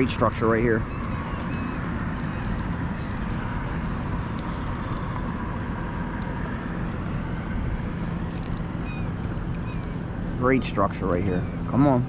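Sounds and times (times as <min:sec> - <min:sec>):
faint steady whine: 0:00.0 - 0:12.0
wind rumble on microphone: 0:00.0 - 0:12.0.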